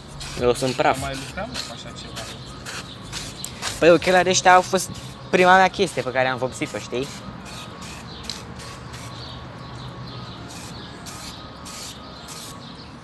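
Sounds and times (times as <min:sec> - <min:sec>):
spray-paint can hissing: 0:00.0 - 0:09.4, 0:10.5 - 0:12.7.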